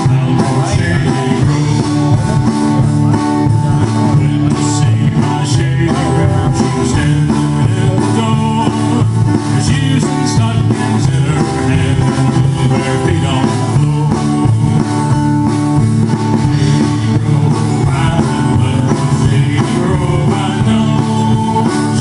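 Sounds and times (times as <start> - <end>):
plucked upright bass: 0.0 - 22.0
steady beat: 0.0 - 22.0
strummed acoustic guitars: 0.0 - 22.0.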